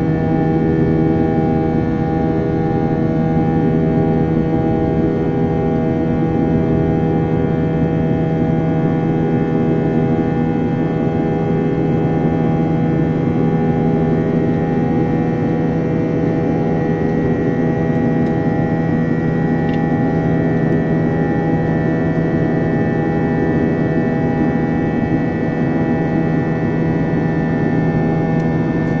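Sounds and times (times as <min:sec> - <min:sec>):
jet engine drone in cabin: 0:00.0 - 0:29.0.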